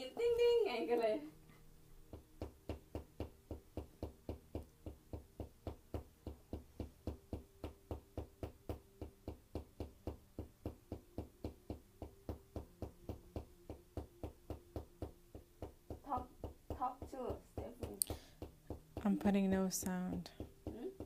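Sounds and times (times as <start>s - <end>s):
wooden mallet knocking on stick: 2.1s - 21.0s.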